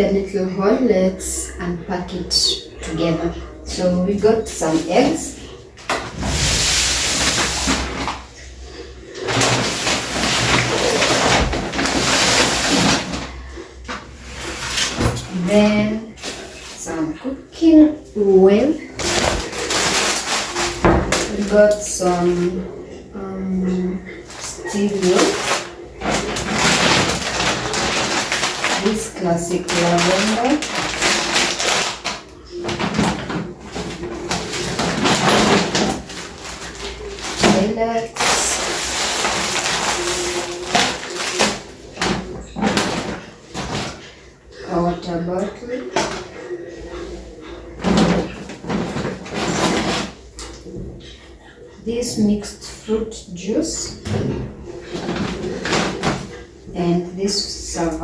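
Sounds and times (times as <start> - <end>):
shopping bag rustling: 4.0 - 50.7, 53.8 - 56.6.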